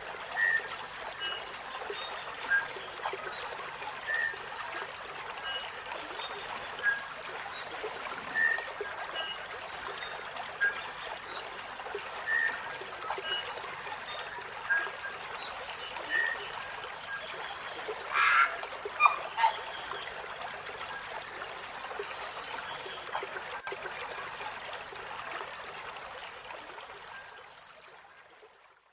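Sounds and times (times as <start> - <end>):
trickling stream: 0.0 - 28.9.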